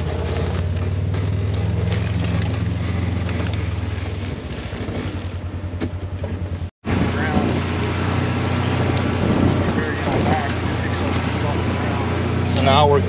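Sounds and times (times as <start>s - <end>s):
knocks and rattles of vehicle: 0.0s - 13.0s
vehicle engine running: 0.0s - 13.0s.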